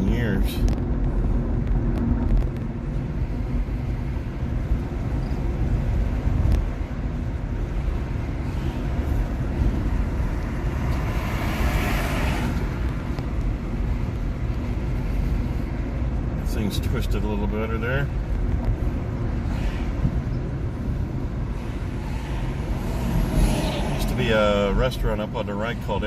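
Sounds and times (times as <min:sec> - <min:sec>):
car road and tyre noise: 0:00.0 - 0:26.0.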